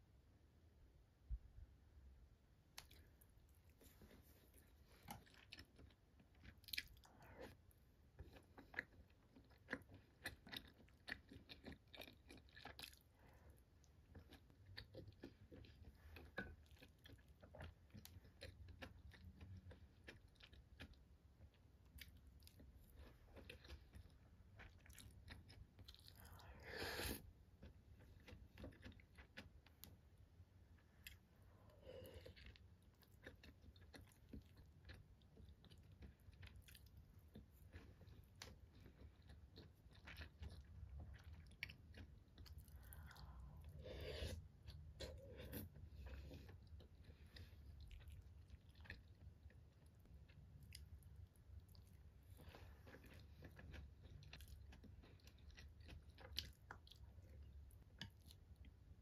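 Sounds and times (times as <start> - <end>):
close-up chewing and biting: 4.6 - 30.0, 31.0 - 59.0.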